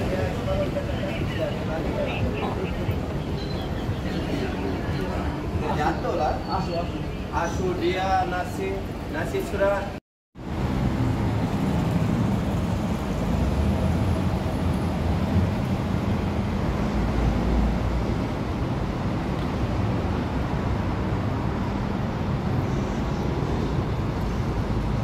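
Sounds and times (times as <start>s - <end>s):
street traffic rumble and hiss: 0.0s - 25.0s.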